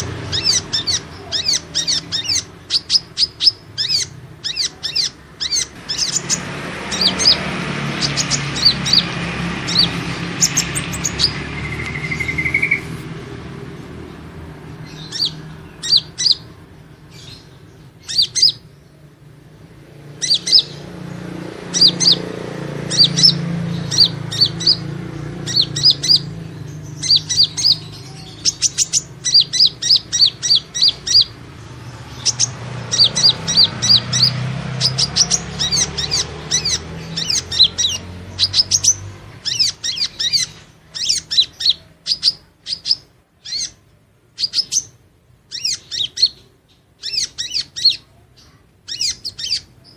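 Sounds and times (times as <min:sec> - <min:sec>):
bird chirping: 0:00.0 - 0:49.9.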